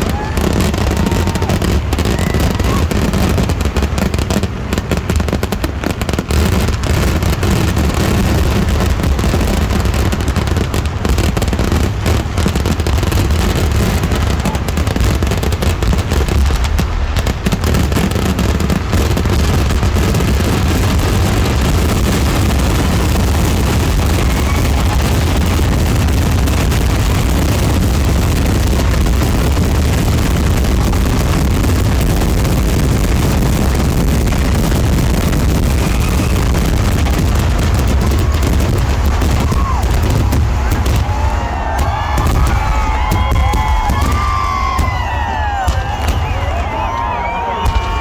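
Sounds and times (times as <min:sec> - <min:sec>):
firecrackers going off rapidly: 0:00.0 - 0:48.0.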